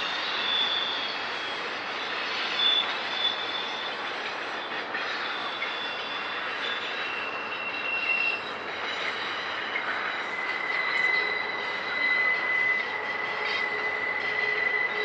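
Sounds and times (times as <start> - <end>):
high-pitched wheel squeal: 0.0 - 15.0
freight cars rolling: 0.4 - 15.0.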